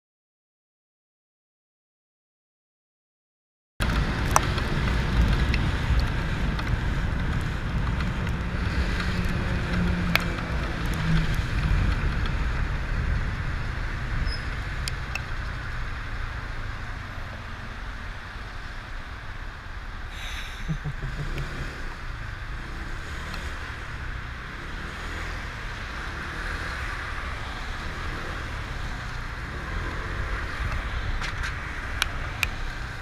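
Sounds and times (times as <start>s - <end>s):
tyres on wet road: 3.8s - 33.0s
wind rushing over microphone: 3.8s - 33.0s.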